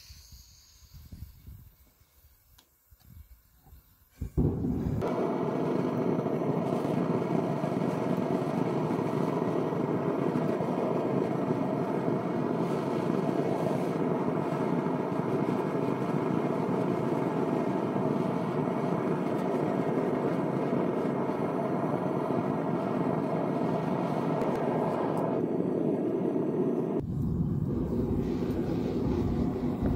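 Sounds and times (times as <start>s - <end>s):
gas burner roaring: 4.3s - 29.9s.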